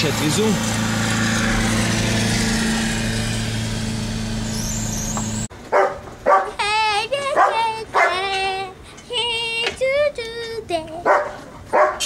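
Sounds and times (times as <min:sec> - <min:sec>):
car engine humming: 0:00.0 - 0:11.8.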